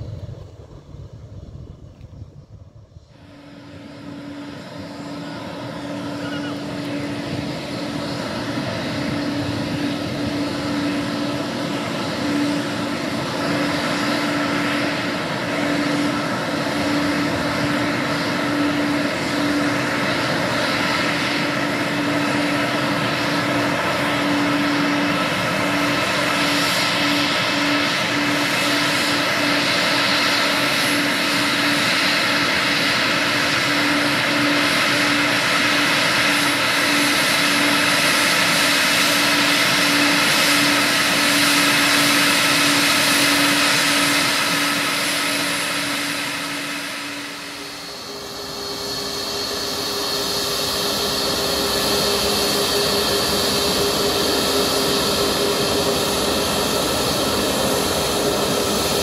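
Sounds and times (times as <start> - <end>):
constant low hum: 0.0 - 59.0
jet engine whine taxiing: 0.0 - 59.0.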